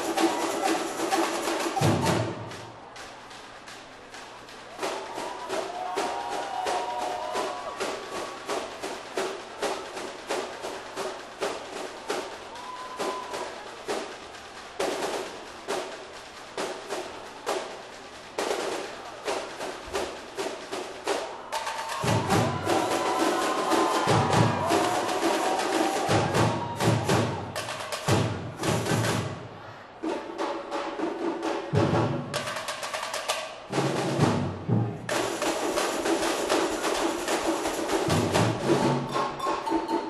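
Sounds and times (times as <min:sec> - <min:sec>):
samba drumming: 0:00.0 - 0:40.0.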